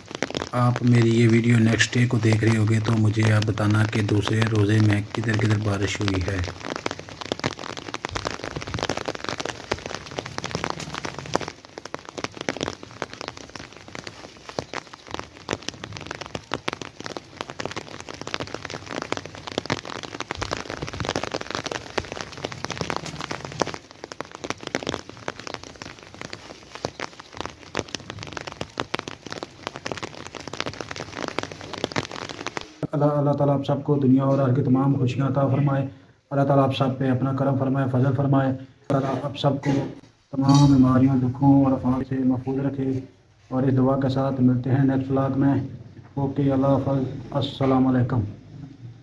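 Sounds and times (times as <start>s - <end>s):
rain falling on wet ground: 0.0s - 49.0s.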